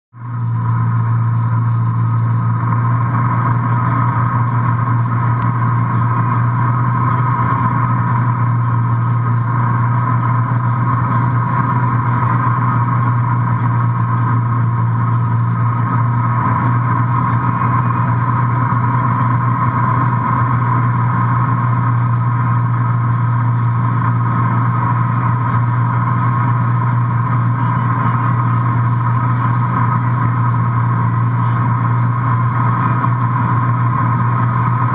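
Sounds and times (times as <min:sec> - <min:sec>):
boat engine running steadily: 0:00.1 - 0:34.9.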